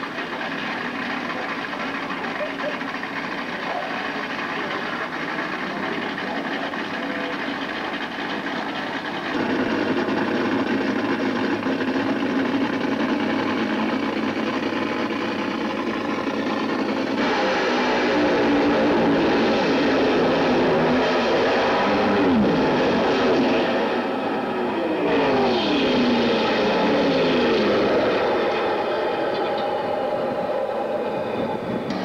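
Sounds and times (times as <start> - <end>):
crowded indoor hall din: 0.0 - 10.3, 15.8 - 32.0.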